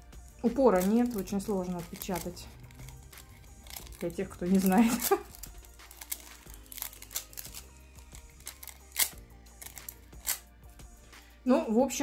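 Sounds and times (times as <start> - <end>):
soft background music: 0.0 - 12.0
foil crinkling: 0.6 - 10.4.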